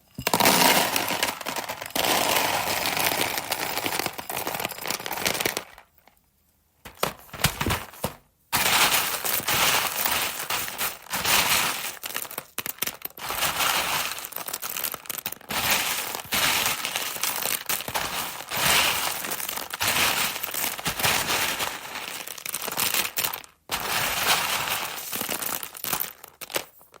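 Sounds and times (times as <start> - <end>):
dry food crunching and crackling: 0.4 - 5.9, 6.9 - 27.0.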